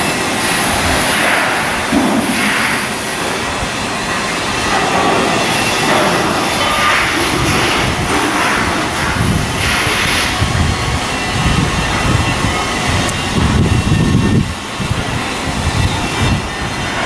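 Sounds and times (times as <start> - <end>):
industrial machinery hiss: 0.0 - 17.0
machinery low rumble: 0.0 - 17.0.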